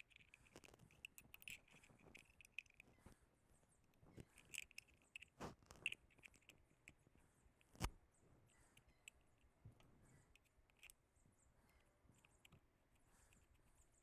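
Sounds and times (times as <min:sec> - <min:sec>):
small metallic clicks and taps: 0:00.0 - 0:03.2, 0:03.8 - 0:07.0, 0:07.6 - 0:11.0, 0:11.7 - 0:14.0.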